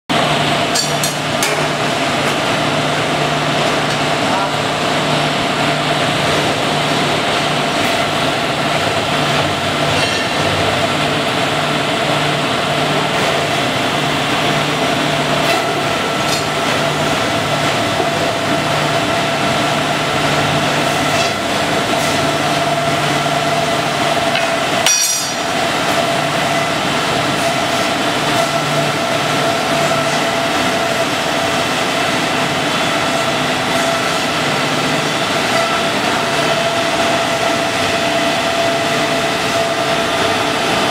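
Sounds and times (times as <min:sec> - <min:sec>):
belt grinding machine running: 0:00.1 - 0:40.9.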